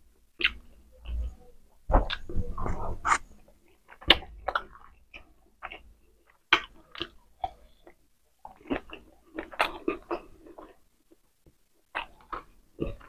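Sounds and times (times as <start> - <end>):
person chewing food: 1.9 - 13.0.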